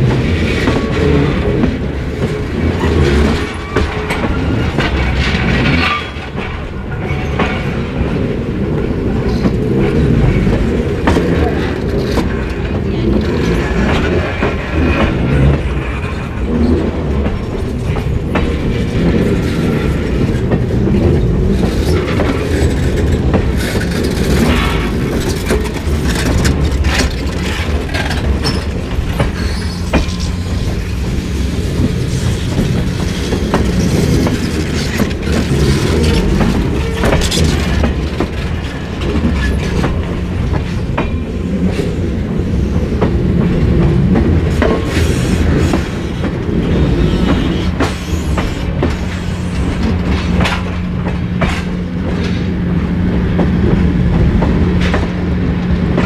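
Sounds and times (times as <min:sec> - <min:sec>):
clicks and clanks at rail joints: 0:00.0 - 0:56.0
train wheels rumbling on rails: 0:00.0 - 0:56.0.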